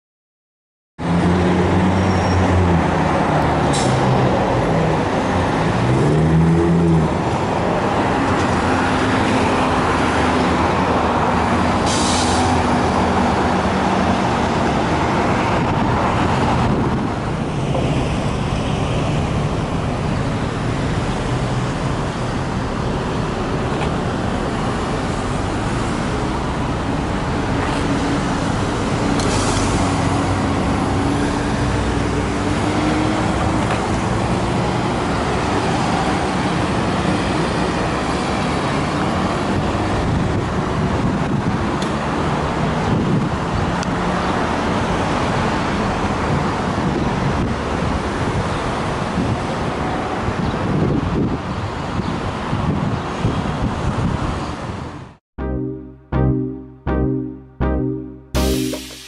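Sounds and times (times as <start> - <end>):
bus driving by: 1.0 - 50.4.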